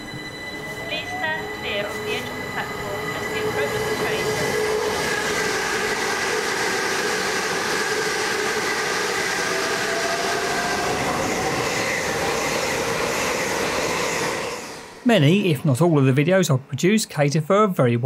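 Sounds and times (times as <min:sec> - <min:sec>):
train wheels rushing on rail: 0:00.0 - 0:15.1
train whining tones: 0:00.0 - 0:16.7.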